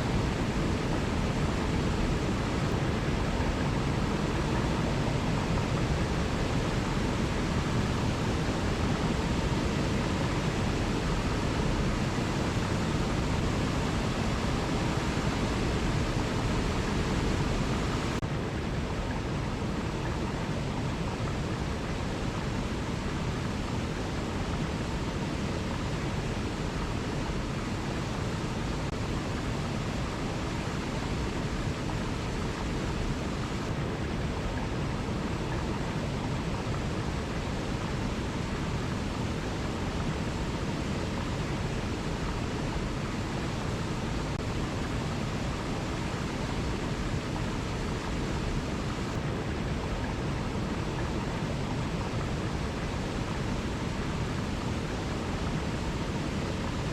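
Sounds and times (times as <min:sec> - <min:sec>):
waterfall roar: 0:00.0 - 0:56.9.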